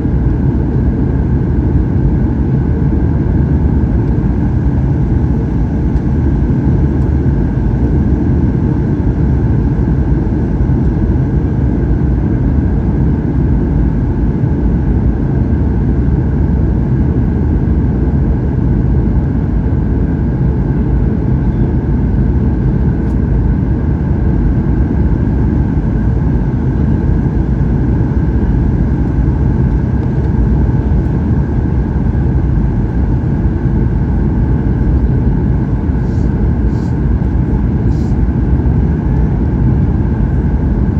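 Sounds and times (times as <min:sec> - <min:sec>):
airplane cabin engine rumble: 0:00.0 - 0:40.9
steady higher hum: 0:00.0 - 0:40.9.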